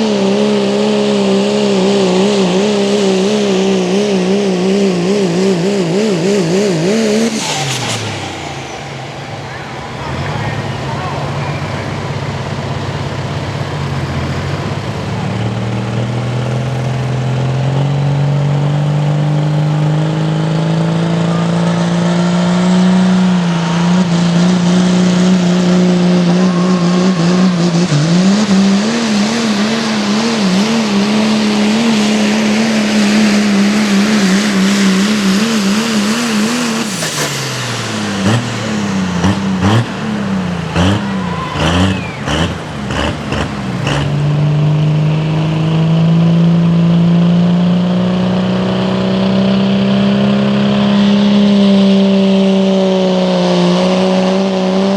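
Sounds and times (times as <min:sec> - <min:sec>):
diesel truck engine revving: 0:00.0 - 0:54.9.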